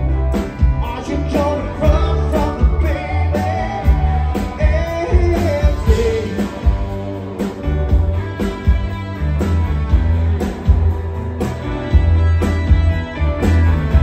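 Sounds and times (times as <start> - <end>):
rock and roll band playing: 0.0 - 14.0.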